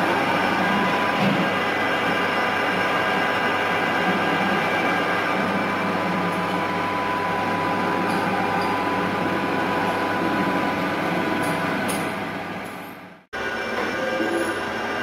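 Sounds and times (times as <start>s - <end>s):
metal lathes humming with gear whine: 0.0s - 15.0s.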